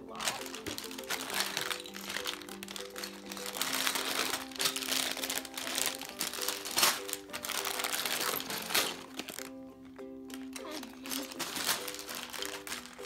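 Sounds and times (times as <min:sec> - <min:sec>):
background music with held notes: 0:00.0 - 0:13.0
plastic bags crinkling: 0:00.0 - 0:13.0.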